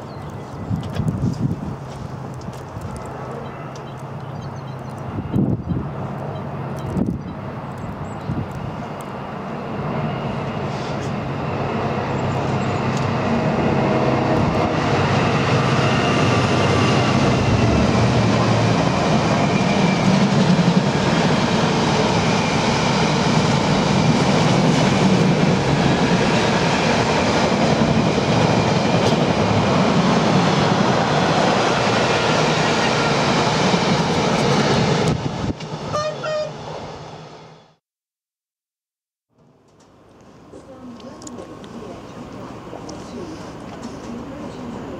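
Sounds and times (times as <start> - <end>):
diesel locomotive engine drone: 0.0 - 37.8, 39.4 - 44.9.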